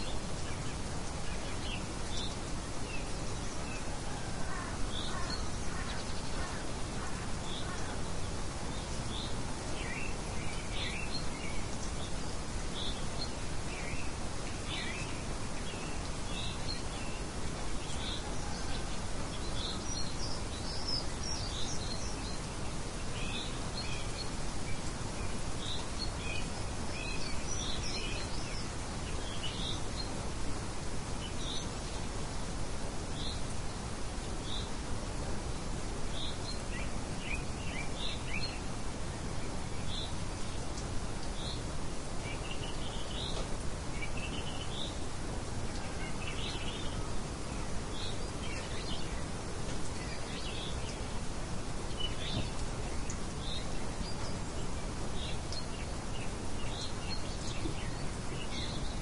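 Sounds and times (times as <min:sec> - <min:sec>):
rain hiss: 0:00.0 - 0:59.0
small birds chirping: 0:00.0 - 0:59.0.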